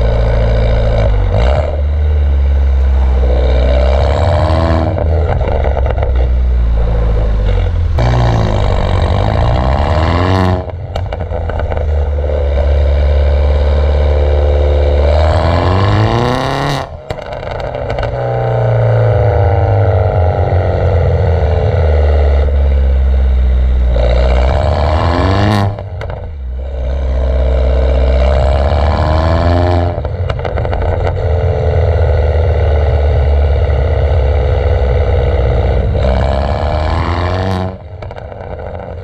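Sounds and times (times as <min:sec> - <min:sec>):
exhaust pop: 0:00.0 - 0:22.6, 0:23.9 - 0:26.8, 0:28.0 - 0:39.0
car engine accelerating: 0:00.0 - 0:39.0.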